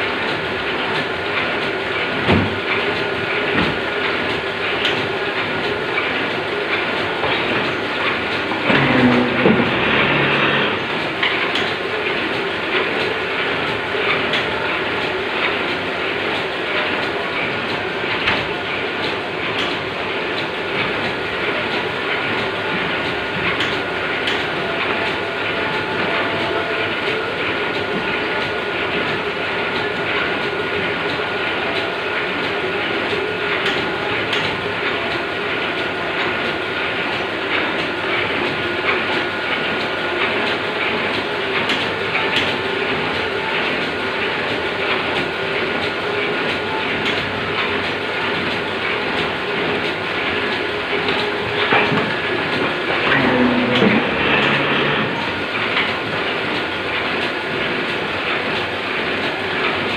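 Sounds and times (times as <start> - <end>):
machine running with high whine: 0.0 - 59.9.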